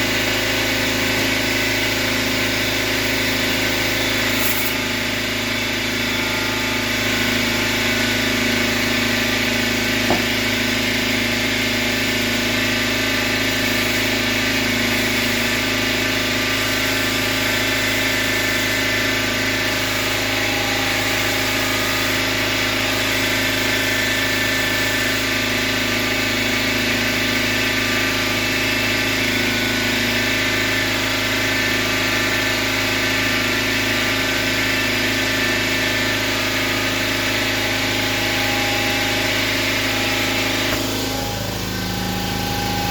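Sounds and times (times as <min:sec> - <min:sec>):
motor running steadily: 0:00.0 - 0:42.9.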